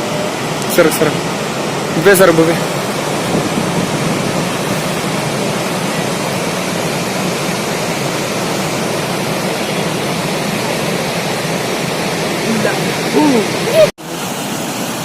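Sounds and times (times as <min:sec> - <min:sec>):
floodwater rushing from dam: 0:00.0 - 0:15.0.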